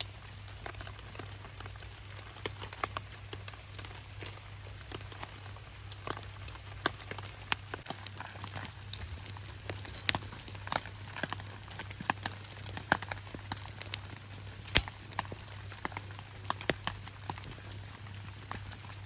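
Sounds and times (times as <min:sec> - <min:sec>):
campfire crackling: 0:00.0 - 0:19.0
hiss of rainfall: 0:00.0 - 0:19.0
raindrops tapping a tarp: 0:00.0 - 0:19.0.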